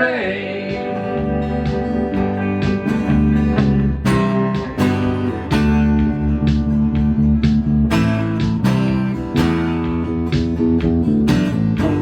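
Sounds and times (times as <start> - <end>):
bass line: 0.0 - 12.0
strummed acoustic guitar chords: 0.0 - 12.0.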